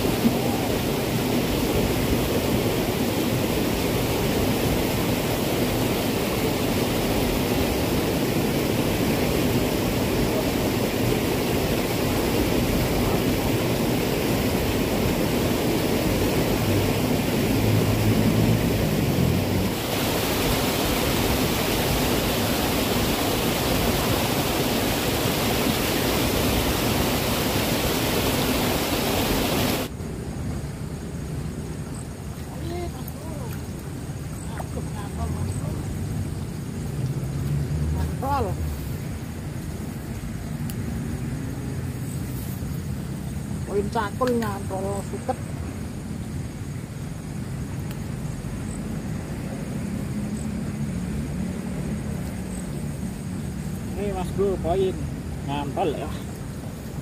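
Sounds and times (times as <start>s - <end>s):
rushing water in a ditch: 0.0s - 57.0s.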